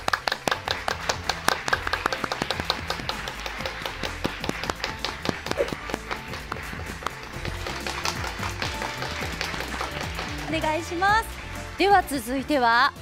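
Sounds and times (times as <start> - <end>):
small group clapping: 0.0 - 11.8.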